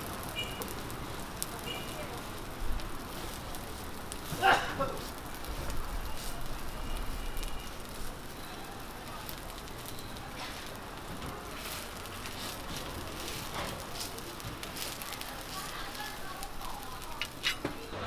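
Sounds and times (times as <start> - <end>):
pancakes sizzling in oil: 0.0 - 18.0.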